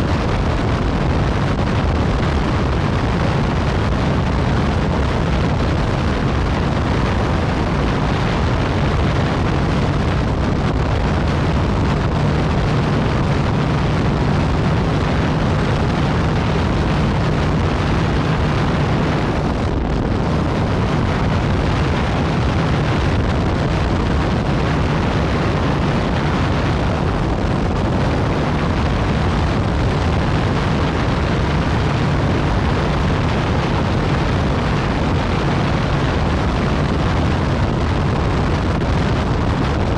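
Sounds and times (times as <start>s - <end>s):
motorcycle engine cruising: 0.0s - 37.6s
wind rush: 0.0s - 39.9s.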